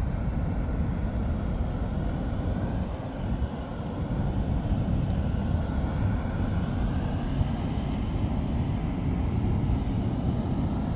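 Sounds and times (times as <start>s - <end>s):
low roar of venting steam: 0.0s - 10.9s.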